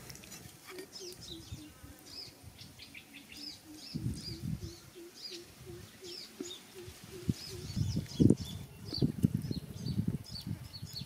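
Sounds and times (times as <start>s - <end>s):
small birds chirping: 0.2s - 11.0s
low bird call: 0.7s - 9.8s.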